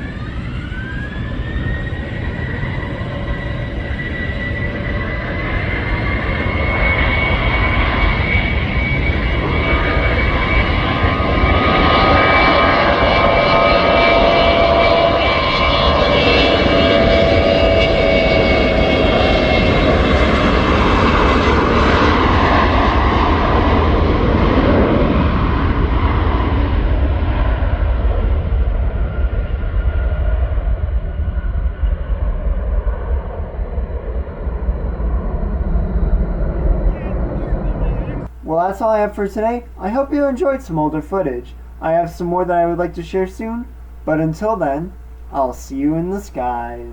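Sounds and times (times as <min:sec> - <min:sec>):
jet engines at takeoff power: 0:00.0 - 0:46.9.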